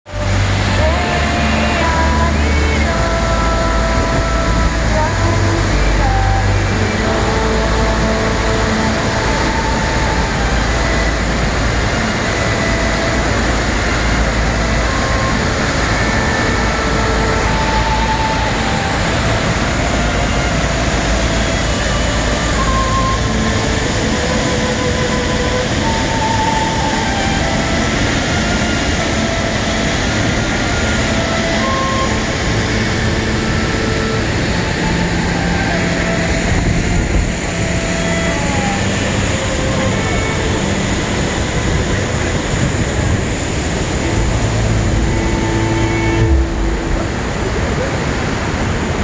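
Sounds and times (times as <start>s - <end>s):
waterfall rushing: 0.1s - 49.0s.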